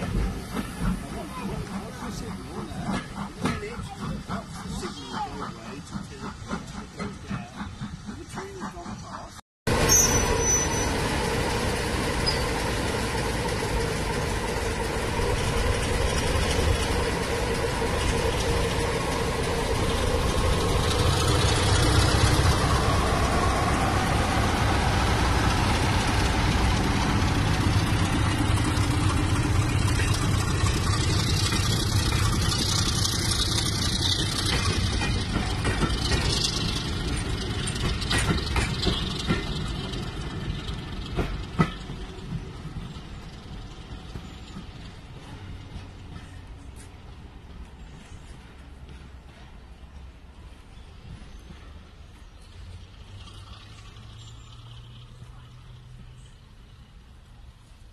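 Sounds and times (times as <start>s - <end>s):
diesel locomotive engine droning: 0.0s - 57.9s.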